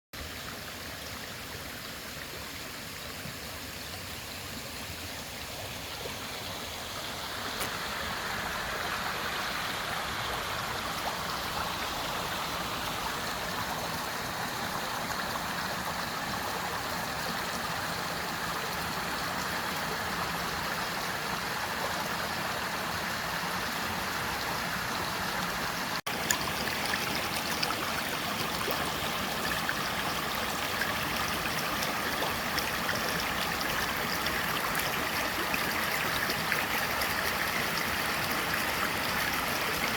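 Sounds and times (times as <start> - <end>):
stream flowing over rocks: 0.2 - 39.9.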